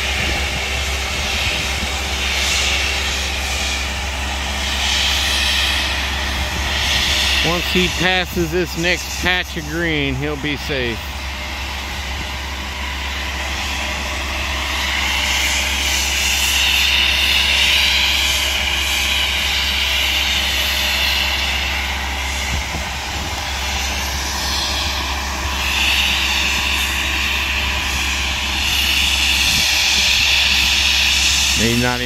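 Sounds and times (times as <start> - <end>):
high whine: 0.0 - 32.0
machine engine humming: 0.0 - 32.0.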